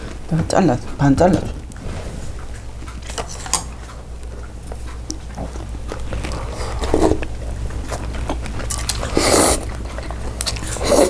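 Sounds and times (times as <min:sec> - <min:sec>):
food being bitten and chewed: 0:00.0 - 0:11.0
steady low hum: 0:00.0 - 0:11.0.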